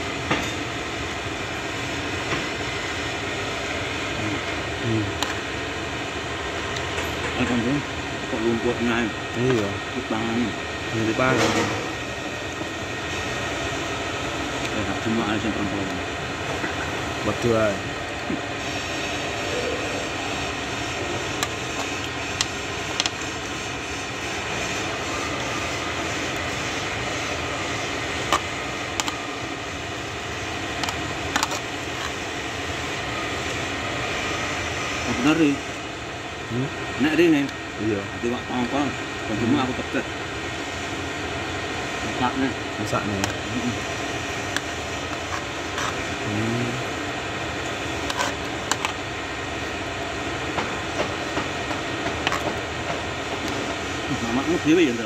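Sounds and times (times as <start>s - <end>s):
steady background hum: 0.0s - 55.0s
steady background noise: 0.0s - 55.0s.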